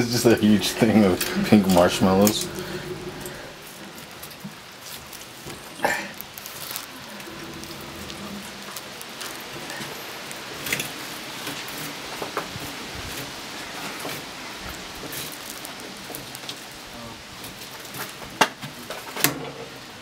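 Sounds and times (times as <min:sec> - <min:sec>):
steady hiss: 0:00.0 - 0:17.8.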